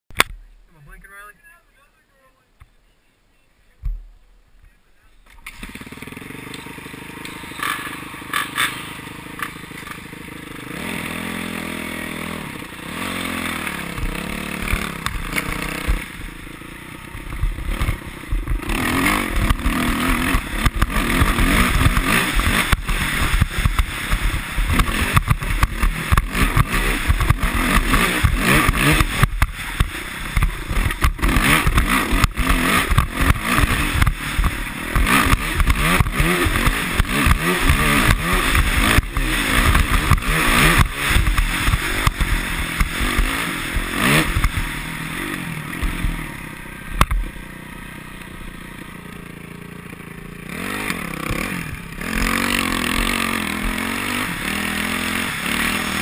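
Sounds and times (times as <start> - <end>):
dirt bike engine revving: 5.3 - 56.0.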